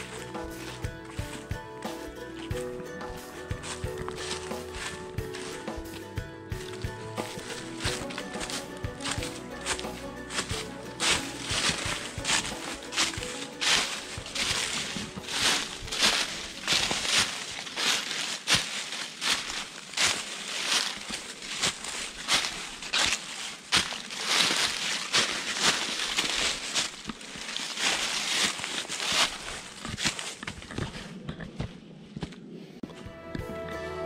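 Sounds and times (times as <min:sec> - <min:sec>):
footsteps crunching through dry leaves: 0:00.0 - 0:31.2.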